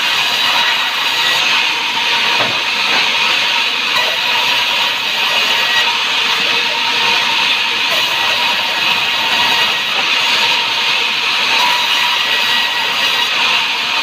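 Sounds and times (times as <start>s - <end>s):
sawmill saw rushing hiss: 0.0s - 14.0s.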